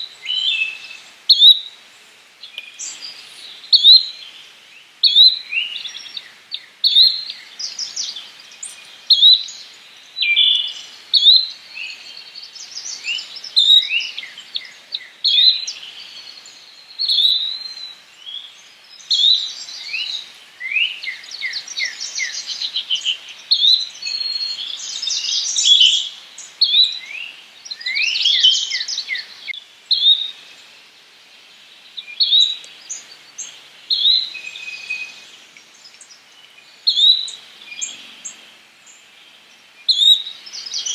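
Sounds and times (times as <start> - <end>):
birds singing and chirping: 0.0 - 1.8, 2.4 - 40.9.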